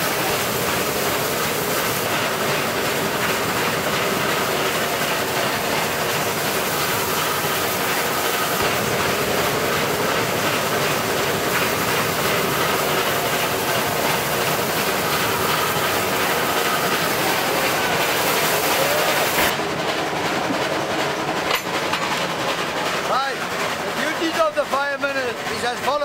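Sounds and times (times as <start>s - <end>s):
steam locomotive running: 0.0s - 26.0s.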